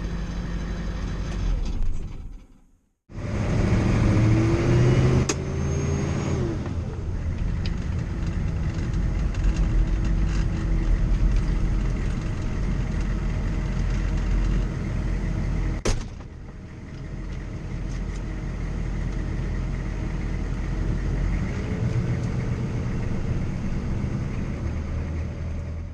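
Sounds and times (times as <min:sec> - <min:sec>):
diesel engine running: 0:00.0 - 0:01.9, 0:03.1 - 0:25.9.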